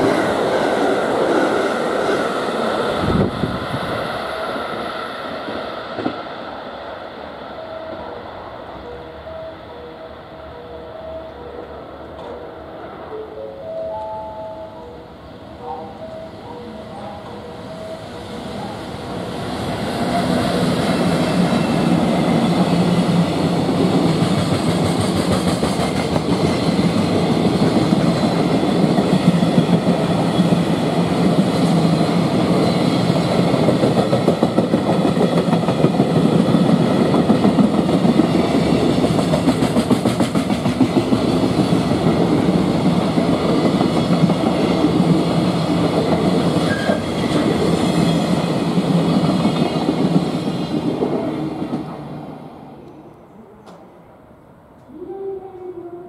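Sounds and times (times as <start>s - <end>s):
freight train rumbling past: 0.0s - 55.3s.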